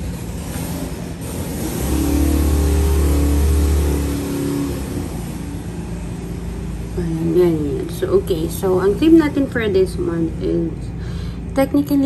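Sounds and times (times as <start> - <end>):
motorcycle passing by: 0.0 - 10.9.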